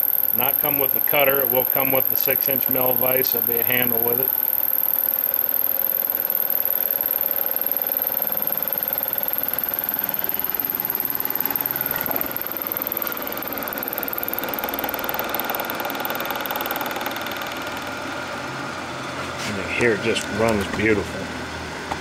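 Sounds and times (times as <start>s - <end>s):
milling machine whirring: 0.0s - 22.0s.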